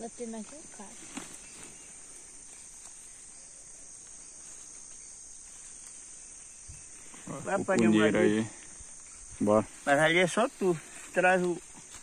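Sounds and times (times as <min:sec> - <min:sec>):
high-pitched insect chorus: 0:00.0 - 0:12.0
faint rustles: 0:00.2 - 0:12.0.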